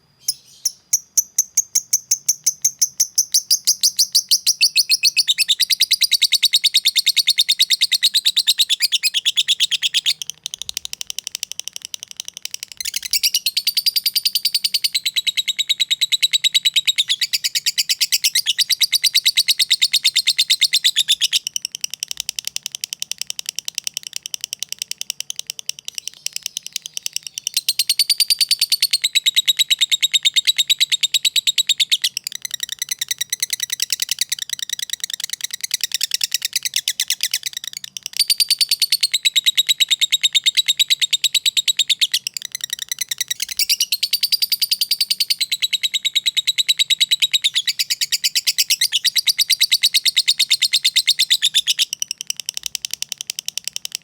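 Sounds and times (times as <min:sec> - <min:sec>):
lovebird chattering song: 0:00.2 - 0:54.0.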